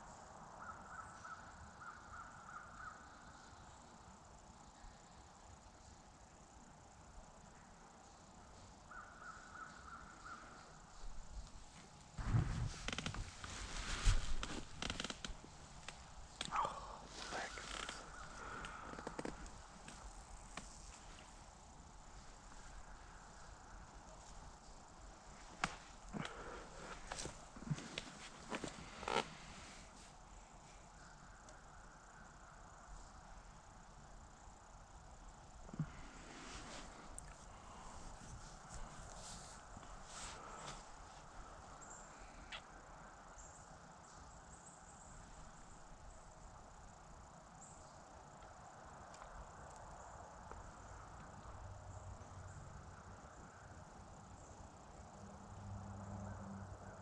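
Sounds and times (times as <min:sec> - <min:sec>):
cricket trill: 0:00.0 - 0:57.0.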